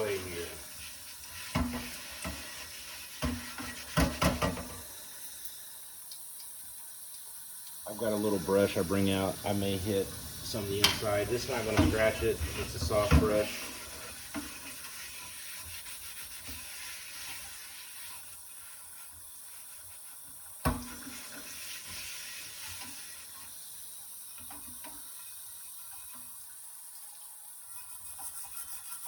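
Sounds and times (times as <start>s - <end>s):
brush scrubbing a pot: 0.0s - 5.4s, 7.6s - 29.0s
water running into a sink: 0.0s - 29.0s.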